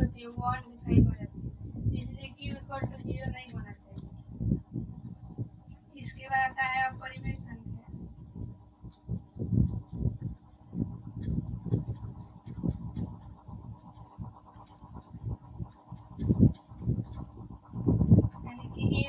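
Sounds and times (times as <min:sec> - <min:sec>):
high-pitched insect chirring: 0:00.0 - 0:19.0.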